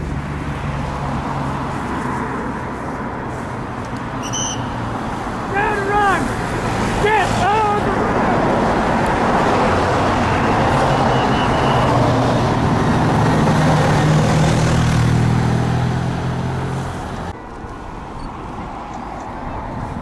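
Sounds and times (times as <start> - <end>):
loud engine humming: 0.0 - 17.7.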